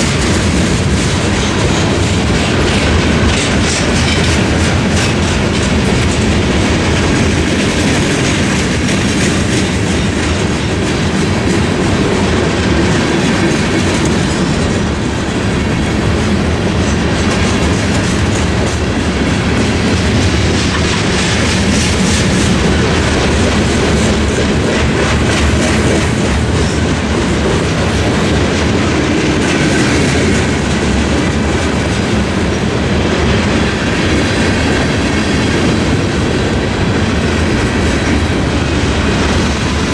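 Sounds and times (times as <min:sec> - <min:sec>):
freight train cars rumbling: 0:00.0 - 0:39.9
train wheels clicking over rail joints: 0:00.0 - 0:39.9.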